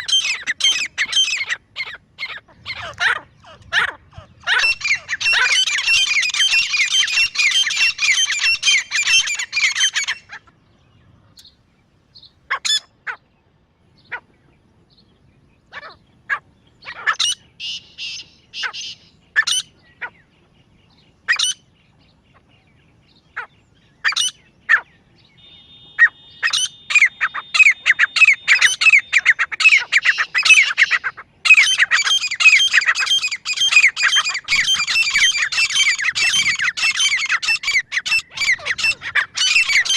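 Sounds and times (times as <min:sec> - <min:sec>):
francolin calling: 0:00.0 - 0:11.6, 0:15.7 - 0:20.3, 0:23.2 - 0:39.9.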